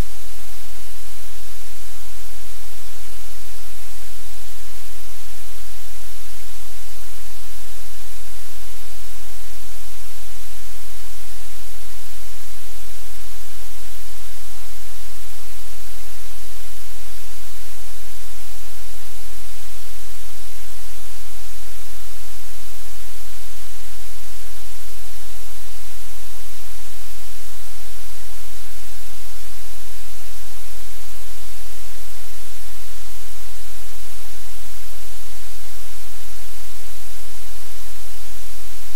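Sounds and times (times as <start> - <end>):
loud static hiss: 0.0 - 38.9.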